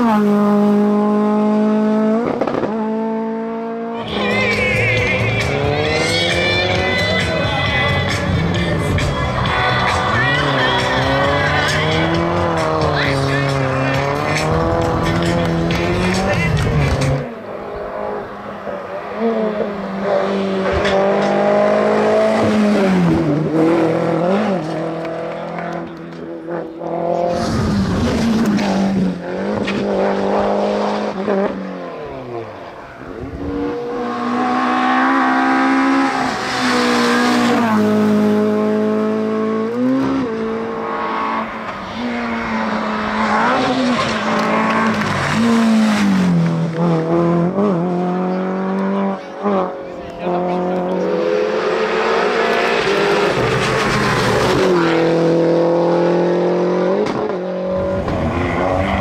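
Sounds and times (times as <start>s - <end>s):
rally car engines revving high: 0.0s - 59.0s.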